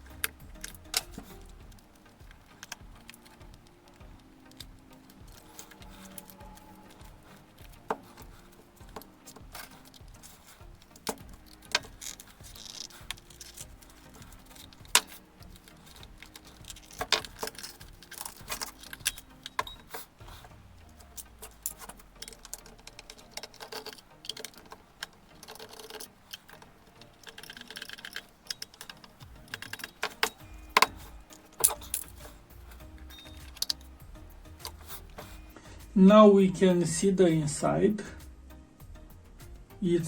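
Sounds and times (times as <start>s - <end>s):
plastic case being handled: 0.0s - 35.5s
screws clicking: 0.0s - 35.5s
small tools clicking and tapping: 0.0s - 35.9s
faint background music: 0.0s - 40.0s.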